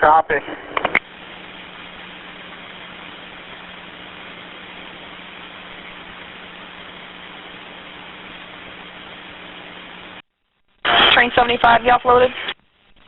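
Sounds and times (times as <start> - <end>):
constant low hum: 0.0 - 13.0
radio static hiss: 0.0 - 13.0.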